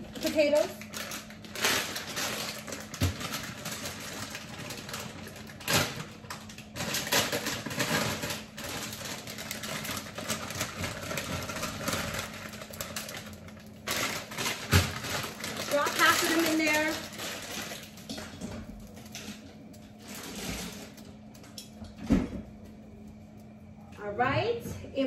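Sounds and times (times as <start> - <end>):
plastic bag crinkling: 0.0 - 24.1
steady low hum: 0.0 - 25.0.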